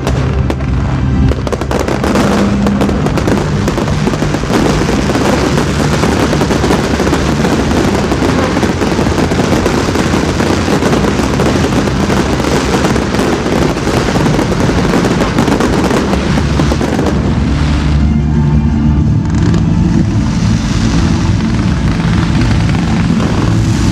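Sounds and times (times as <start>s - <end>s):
fireworks crackling and popping: 0.0s - 23.9s.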